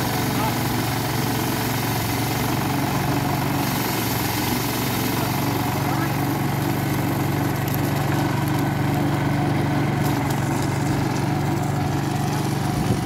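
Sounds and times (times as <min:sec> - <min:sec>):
core drill cutting into road: 0:00.0 - 0:13.0.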